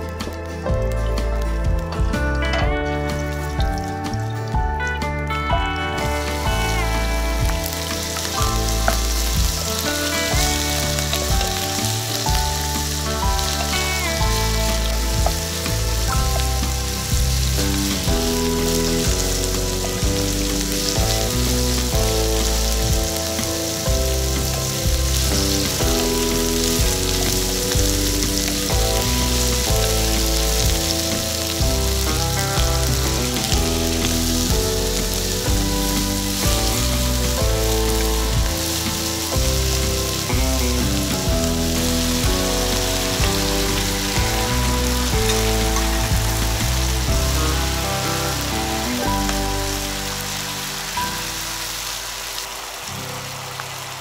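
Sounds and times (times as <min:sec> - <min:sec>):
background music: 0:00.0 - 0:54.0
vegetables sizzling in a frying pan: 0:05.7 - 0:54.0.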